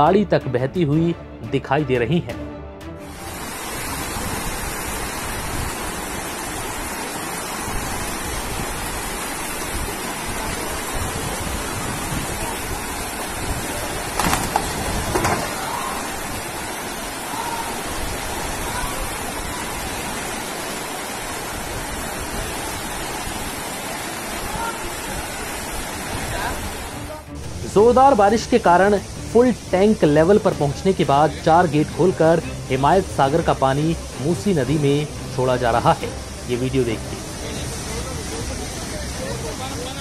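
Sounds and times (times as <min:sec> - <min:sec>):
floodwater rushing: 0:03.0 - 0:40.0.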